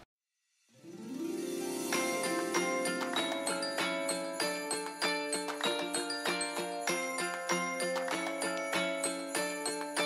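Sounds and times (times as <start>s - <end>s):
bell-like melody: 0.8s - 10.0s.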